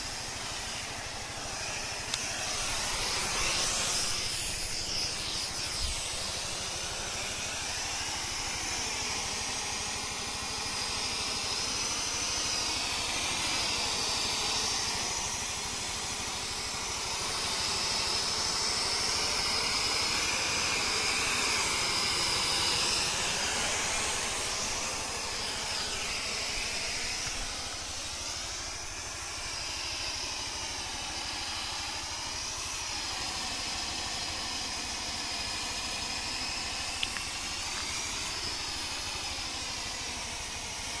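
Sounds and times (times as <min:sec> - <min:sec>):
spray gun hissing: 0:00.0 - 0:41.0.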